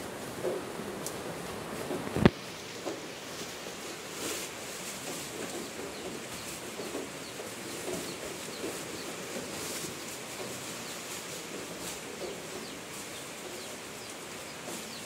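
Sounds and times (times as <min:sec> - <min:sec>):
leaves rustling out of a sack: 0:00.0 - 0:15.0
chickens clucking: 0:00.4 - 0:15.0
chicks peeping: 0:01.7 - 0:15.0.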